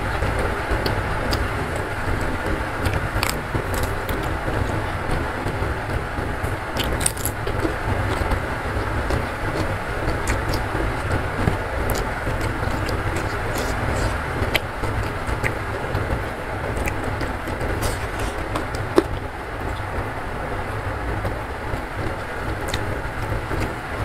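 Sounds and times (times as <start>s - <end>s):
heavy rain rumbling: 0.0s - 24.0s
crunchy vegetables being chewed: 0.8s - 5.6s, 6.4s - 19.8s, 22.0s - 23.7s.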